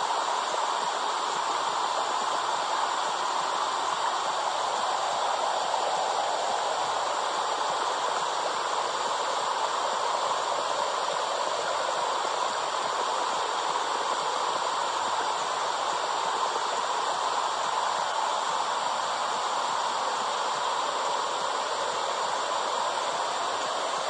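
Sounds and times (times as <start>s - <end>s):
steady rushing womb hiss: 0.0s - 24.0s.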